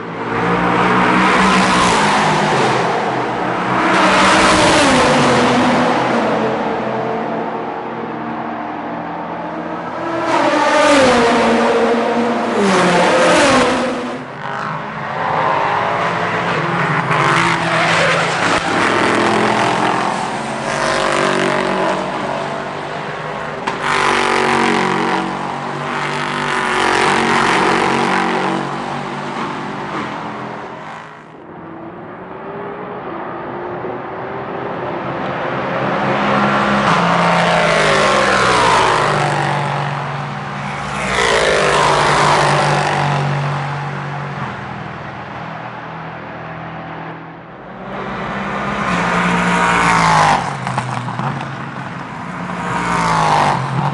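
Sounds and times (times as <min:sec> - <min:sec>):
race cars passing: 0:00.0 - 0:53.9.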